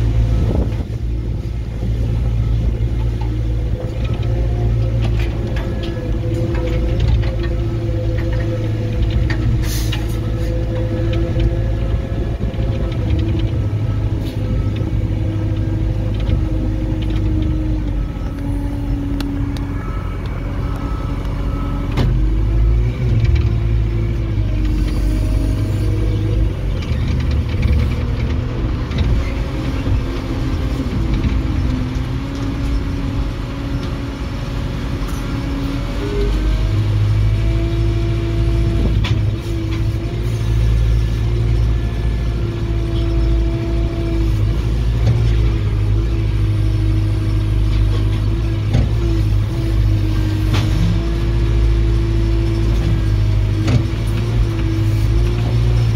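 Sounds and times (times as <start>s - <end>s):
construction machine engine running: 0.0s - 55.9s.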